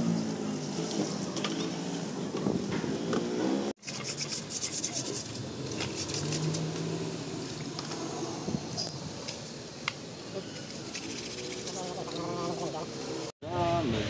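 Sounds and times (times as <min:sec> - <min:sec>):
passing vehicle engine: 0:00.0 - 0:03.8, 0:05.2 - 0:14.0.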